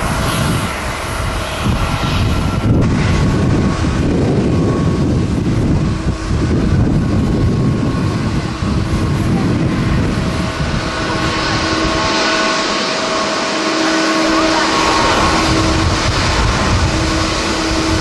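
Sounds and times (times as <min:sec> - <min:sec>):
jet engines roaring: 0:00.0 - 0:18.0
wind rumbling on microphone: 0:00.0 - 0:18.0.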